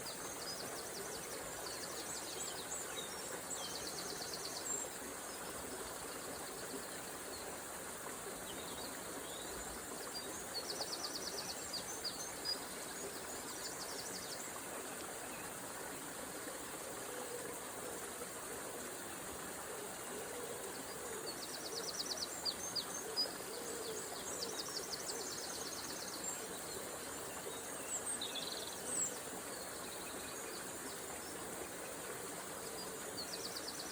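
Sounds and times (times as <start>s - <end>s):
river running: 0.0s - 33.9s.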